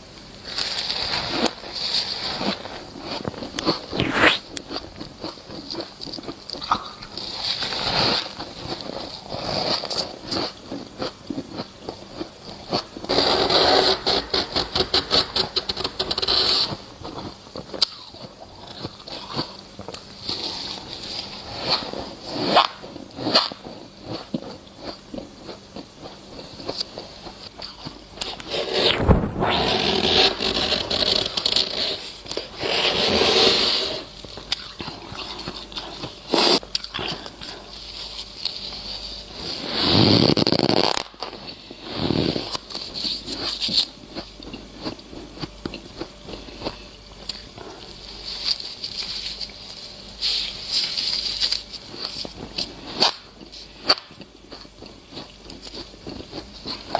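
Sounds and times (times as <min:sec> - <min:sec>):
freezer frost crunching: 0:00.4 - 0:56.9.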